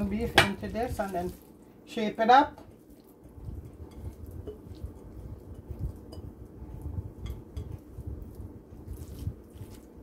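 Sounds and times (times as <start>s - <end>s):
soft thuds of meat mixture: 0.0s - 1.6s, 2.5s - 10.0s.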